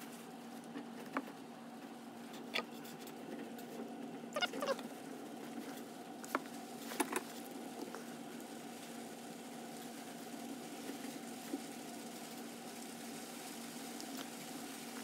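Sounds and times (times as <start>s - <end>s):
low hum of room equipment: 0.0s - 15.0s.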